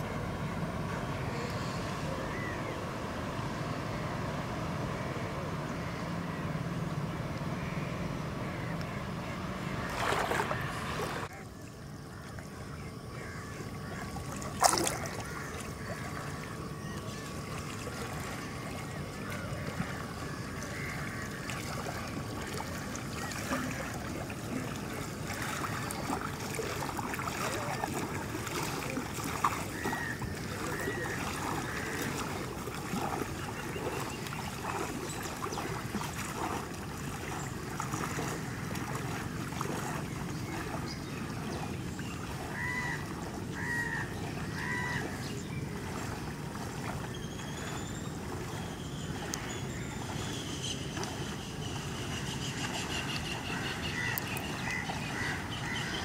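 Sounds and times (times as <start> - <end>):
person wading through water: 0.0 - 56.0.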